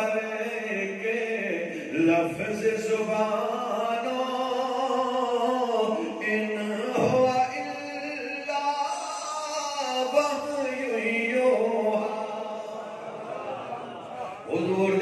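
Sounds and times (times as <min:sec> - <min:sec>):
man chanting into a microphone: 0:00.0 - 0:12.8, 0:14.4 - 0:15.0.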